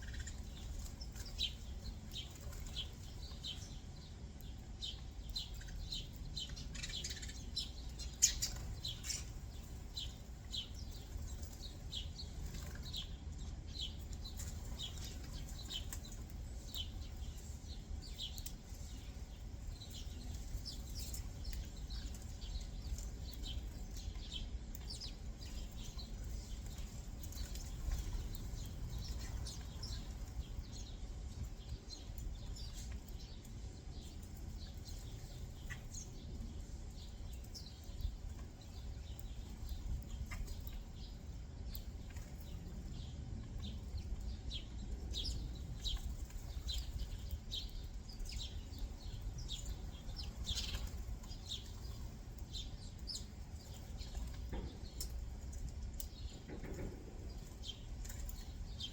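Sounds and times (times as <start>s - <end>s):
low background rumble: 0.0s - 58.9s
songbirds chirping: 0.0s - 58.9s.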